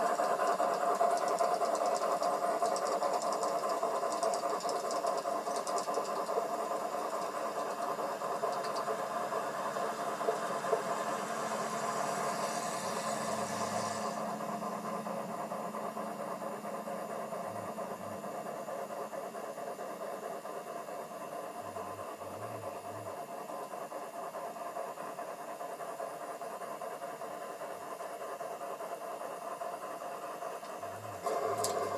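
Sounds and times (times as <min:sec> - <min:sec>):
model train motor hum: 0:00.0 - 0:31.9.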